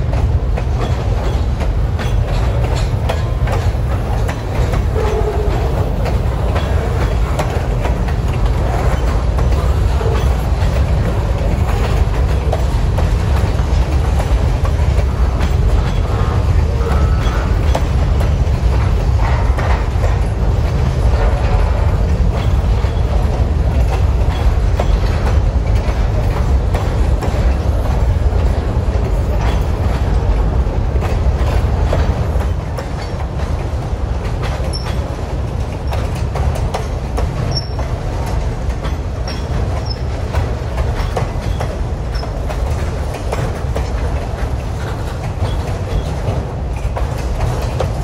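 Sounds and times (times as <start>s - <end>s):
freight train cars rumbling past: 0.0s - 48.0s
wheels clicking over rail joints: 0.0s - 48.0s.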